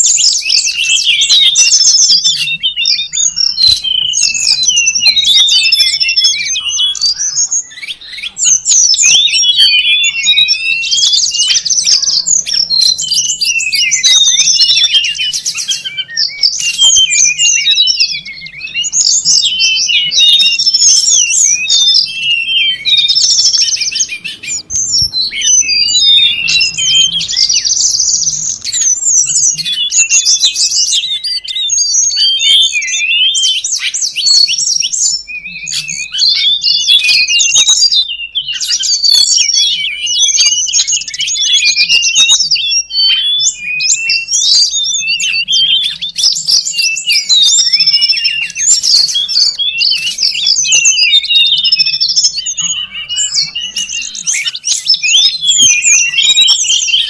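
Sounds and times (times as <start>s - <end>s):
chorus of chirping birds: 0.0s - 57.0s.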